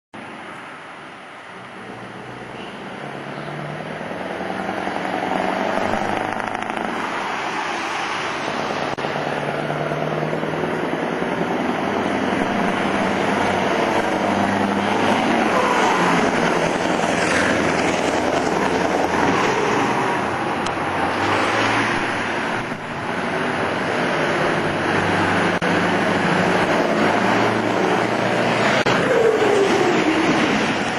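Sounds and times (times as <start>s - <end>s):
truck engines driving past: 1.4s - 30.9s.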